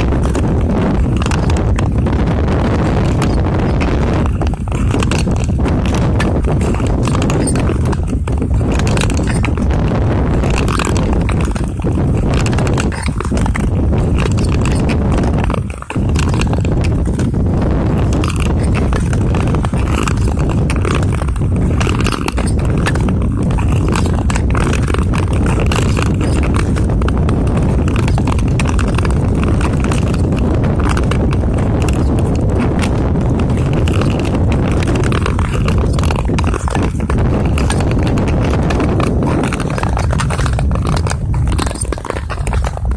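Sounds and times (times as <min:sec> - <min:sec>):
skate blades scraping on ice: 0:00.0 - 0:42.9.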